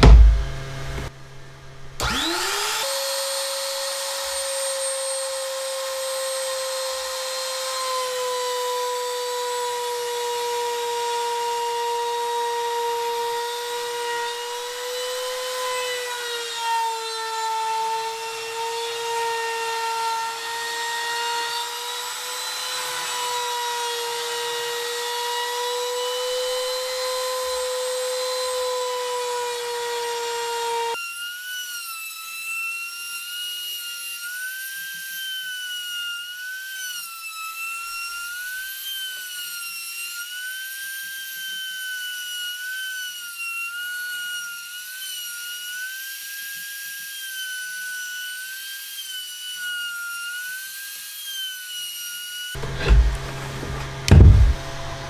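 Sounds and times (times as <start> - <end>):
router motor whining cutting wood: 1.9 - 55.0.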